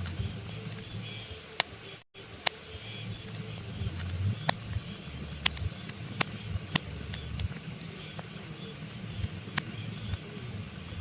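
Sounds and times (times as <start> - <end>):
wood fire crackling and popping: 0.0 - 1.8, 2.4 - 11.0
low rumble and hiss: 0.0 - 11.0.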